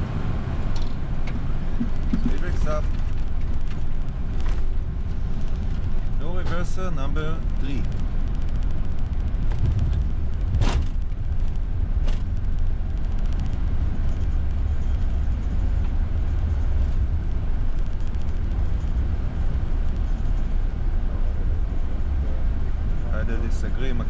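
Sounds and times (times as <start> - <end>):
jet engines rumbling in reverse thrust: 0.0 - 24.0.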